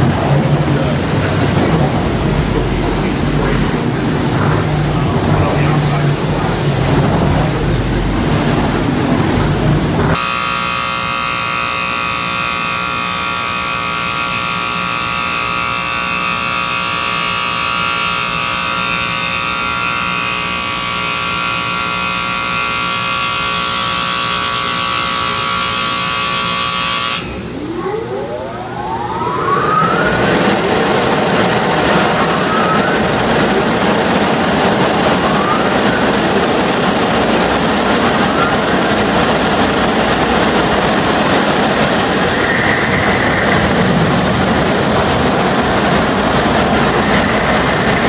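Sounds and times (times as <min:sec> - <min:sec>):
rising whine: 0:00.0 - 0:22.0, 0:25.8 - 0:48.0
wash machine whining: 0:00.0 - 0:48.0.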